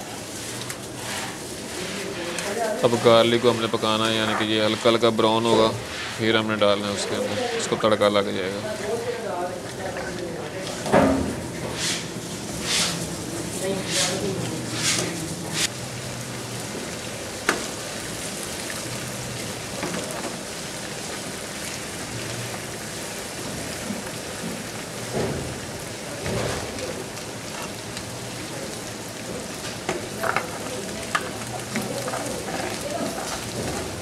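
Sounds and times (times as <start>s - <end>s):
garlic sizzling in hot oil: 0.0s - 10.9s, 11.7s - 34.0s.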